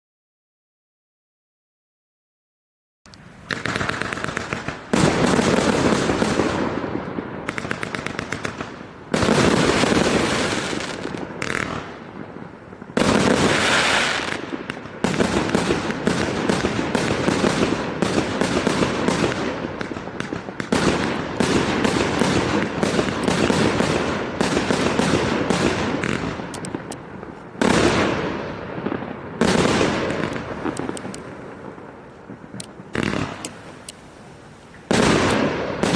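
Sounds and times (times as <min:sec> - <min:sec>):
fireworks barrage: 0:03.1 - 0:35.9.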